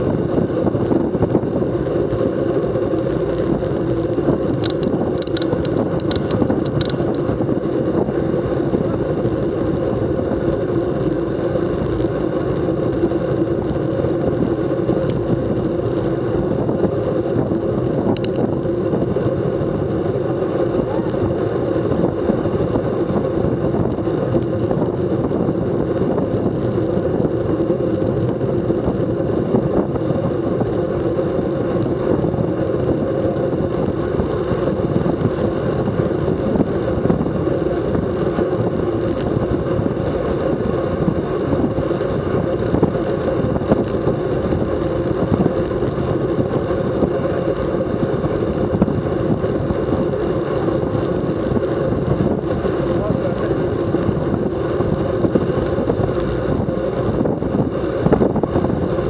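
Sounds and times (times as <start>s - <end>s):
bicycle road noise: 0.0s - 59.0s
wind buffeting microphone: 0.0s - 59.0s.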